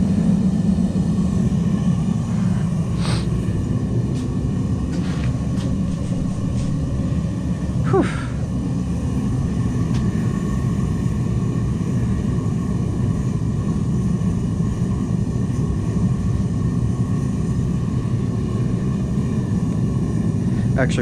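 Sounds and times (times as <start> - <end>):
gas forge burner roaring: 0.0 - 21.0.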